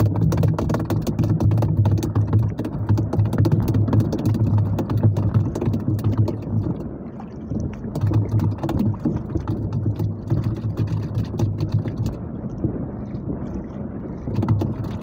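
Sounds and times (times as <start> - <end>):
boat engine humming: 0.0 - 15.0
waves: 0.0 - 15.0
wind: 0.0 - 15.0.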